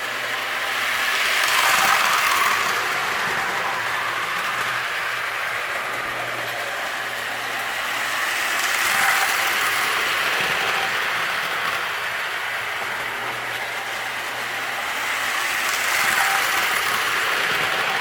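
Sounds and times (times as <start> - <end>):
toy train whirring rattle: 0.0 - 18.0.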